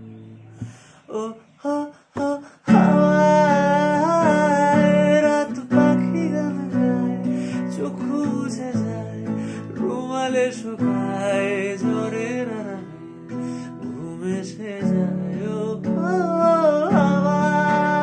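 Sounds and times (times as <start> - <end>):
man singing: 1.0 - 18.0
acoustic guitar strums: 2.2 - 18.0.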